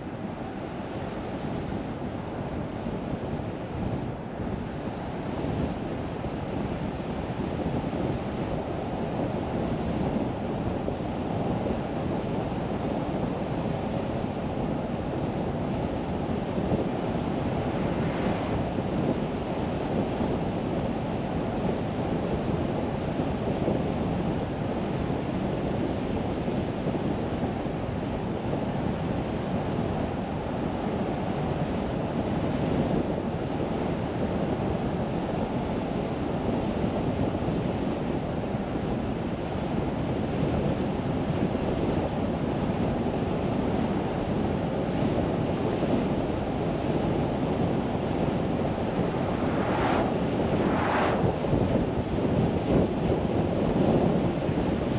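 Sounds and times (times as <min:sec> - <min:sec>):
car road and wind noise: 0:00.1 - 0:54.9.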